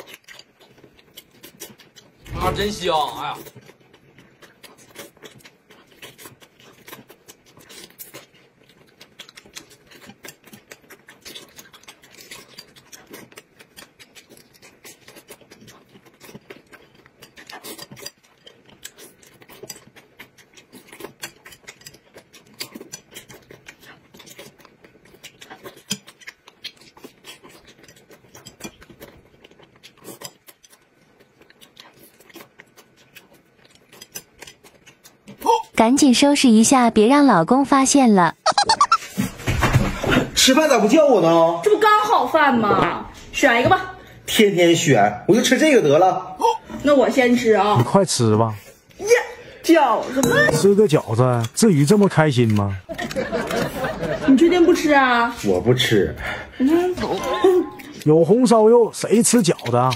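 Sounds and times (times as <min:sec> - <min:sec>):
person chewing: 0:00.0 - 0:35.8, 0:38.4 - 0:39.3, 0:46.3 - 0:59.9.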